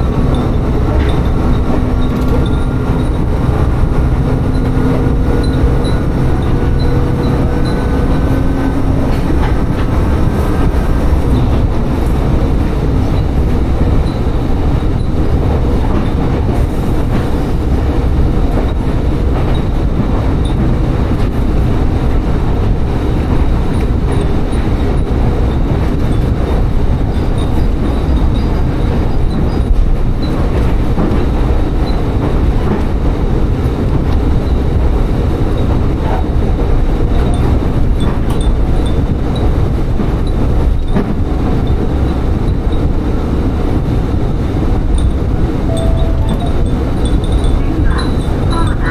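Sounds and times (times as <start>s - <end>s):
railcar engine and wheels rumble: 0.0s - 48.9s
railcar whine: 0.0s - 48.9s.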